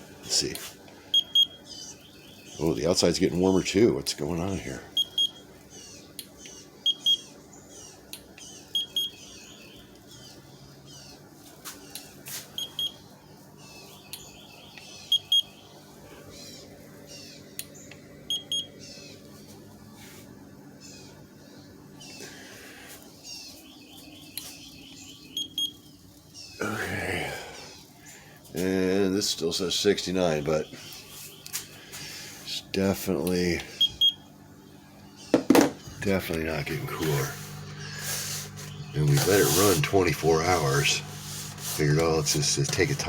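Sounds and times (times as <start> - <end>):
fridge humming: 0.0 - 43.0.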